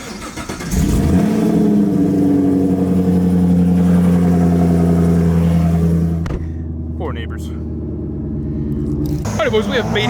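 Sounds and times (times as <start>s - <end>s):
car engine starting and idling: 0.0s - 10.0s.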